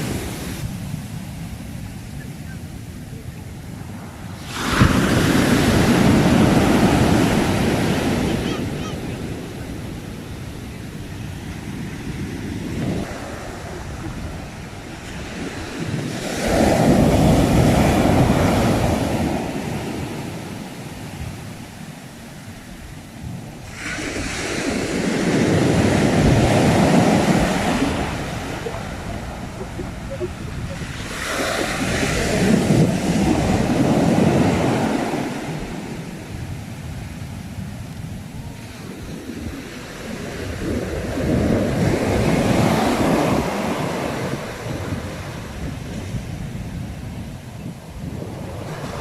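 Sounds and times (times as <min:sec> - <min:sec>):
sea waves crashing on shore: 0:00.0 - 0:49.0
wind on microphone: 0:00.0 - 0:49.0.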